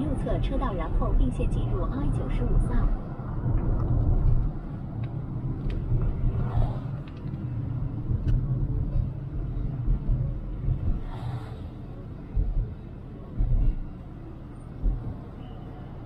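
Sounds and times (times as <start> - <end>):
car cabin road and engine rumble: 0.0 - 16.0.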